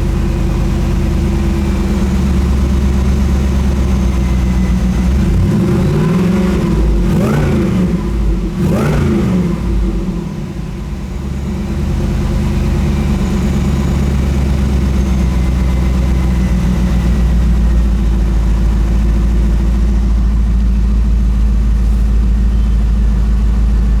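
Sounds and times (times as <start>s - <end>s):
supercharged engine revving and idling: 0.0s - 24.0s.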